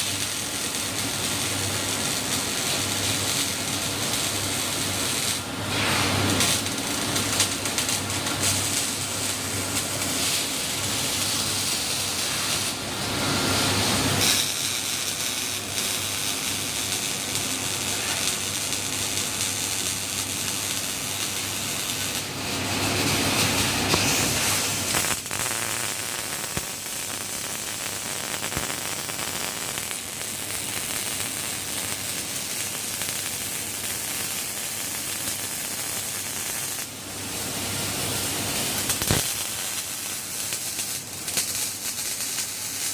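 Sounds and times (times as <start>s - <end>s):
welding arc noise: 0.0s - 42.9s.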